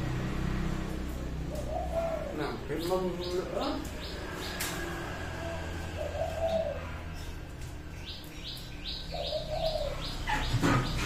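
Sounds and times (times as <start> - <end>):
dove cooing: 1.2 - 7.4, 8.0 - 11.0.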